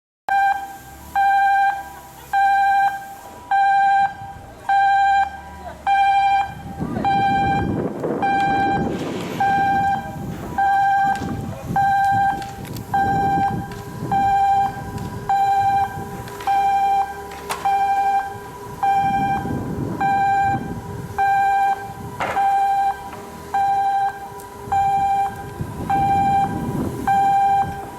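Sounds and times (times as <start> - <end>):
electronic warning alarm beeping: 0.3 - 27.9
heavy machinery rumble: 0.3 - 27.9.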